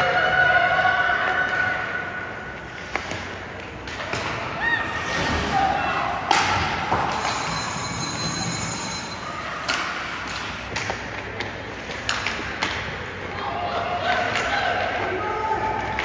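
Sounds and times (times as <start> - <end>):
hockey sticks and puck clacking: 2.5 - 16.0.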